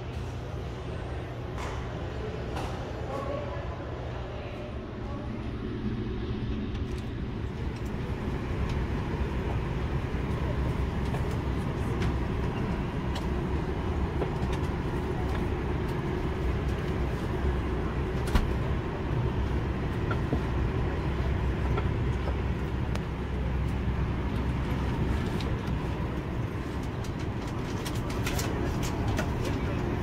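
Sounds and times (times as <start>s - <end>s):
aircraft cabin air system rumble: 0.0s - 30.0s.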